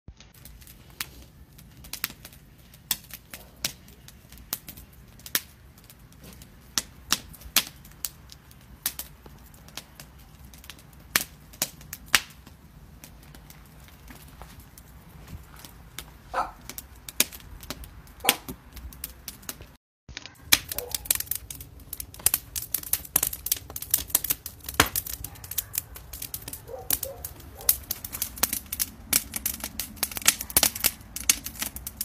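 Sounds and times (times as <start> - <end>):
fire crackling and popping: 0.1 - 32.0.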